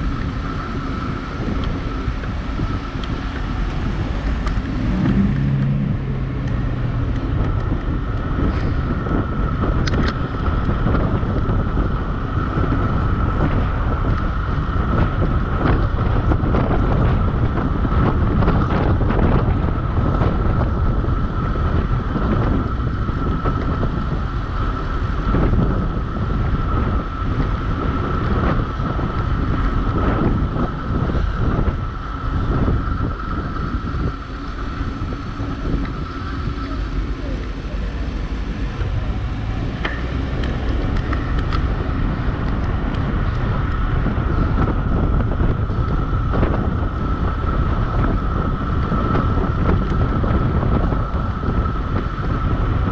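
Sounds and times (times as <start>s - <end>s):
high-pitched whine: 0.0s - 52.9s
wind buffeting microphone: 0.0s - 52.9s.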